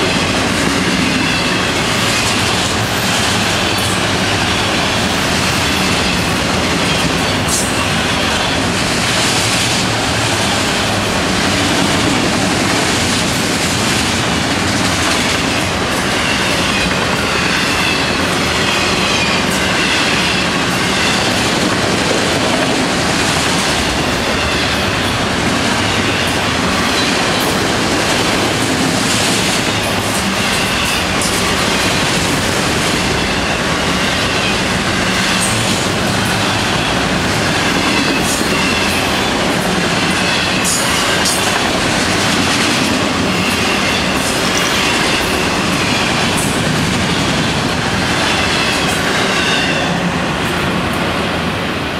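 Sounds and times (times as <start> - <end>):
steel wheels rumbling on rails: 0.0 - 51.9.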